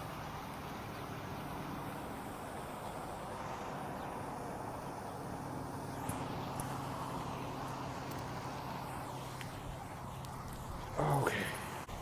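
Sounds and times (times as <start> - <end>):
background hiss: 0.0 - 12.0
distant motor humming: 0.0 - 12.0.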